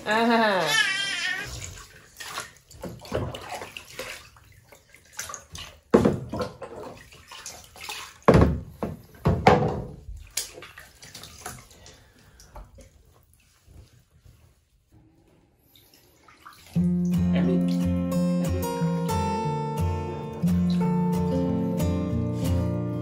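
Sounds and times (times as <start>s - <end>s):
bath water splashing: 0.0s - 22.2s.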